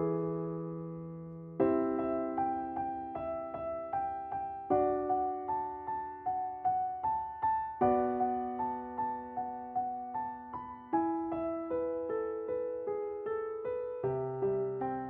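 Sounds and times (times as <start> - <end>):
gentle piano arpeggios: 0.0 - 15.0.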